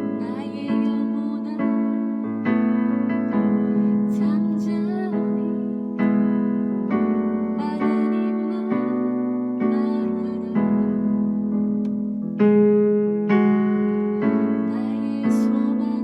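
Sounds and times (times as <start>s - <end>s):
slow hymn on keyboard: 0.0s - 16.0s.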